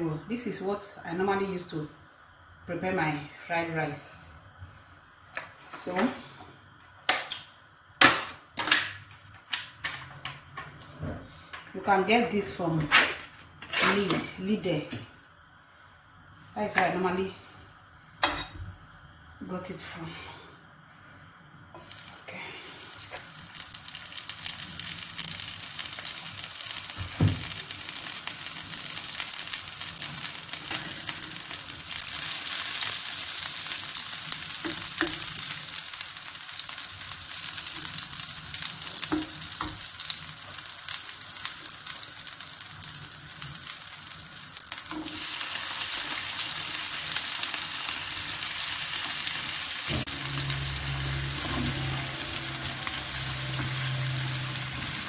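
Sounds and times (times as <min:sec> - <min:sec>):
fat sizzling in a wok: 0:00.0 - 0:09.4, 0:11.3 - 0:55.0.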